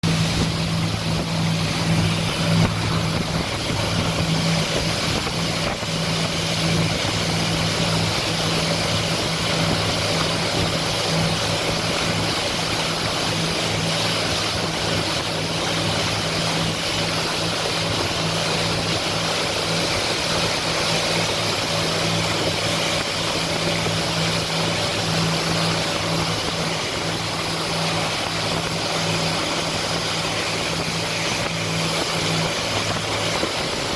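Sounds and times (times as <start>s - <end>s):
motorboat engine droning: 0.0s - 33.9s
rushing water noise: 0.0s - 33.9s.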